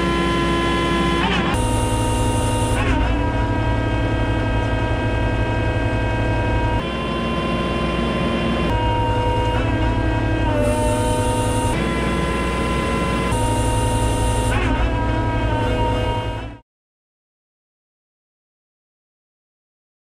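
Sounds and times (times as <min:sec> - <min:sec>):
diesel engine drone: 0:00.0 - 0:16.6
hydraulic whine: 0:00.0 - 0:16.6.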